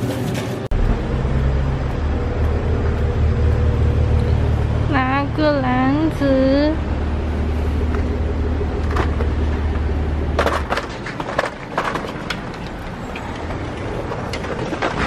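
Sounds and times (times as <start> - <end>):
low rumble: 0.7 - 15.0.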